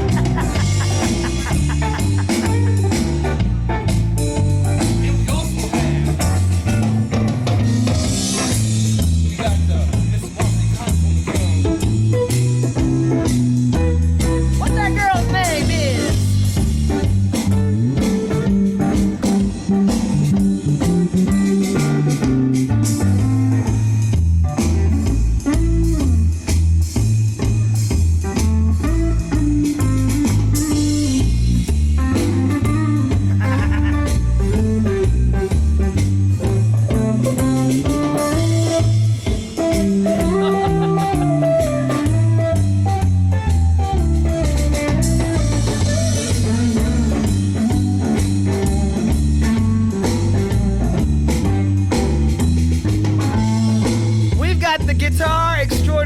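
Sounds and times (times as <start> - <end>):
bass line: 0.0 - 56.0
drum kit: 0.0 - 56.0
lead guitar: 0.0 - 56.0.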